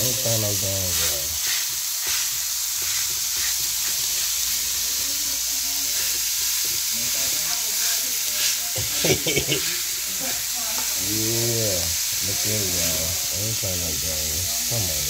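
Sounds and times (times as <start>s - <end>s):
spatula scraping grill plate: 0.0s - 13.7s
meat sizzling on grill plate: 0.0s - 15.0s.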